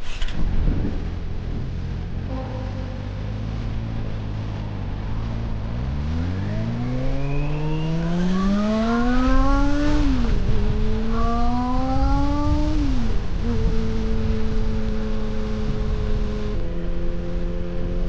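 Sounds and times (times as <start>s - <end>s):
motorcycle engine accelerating: 0.0s - 18.0s
wind and road rumble: 0.0s - 18.0s.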